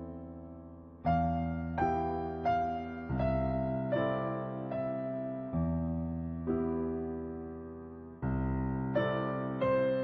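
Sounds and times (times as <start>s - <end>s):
soft electric piano chords: 0.0s - 10.0s.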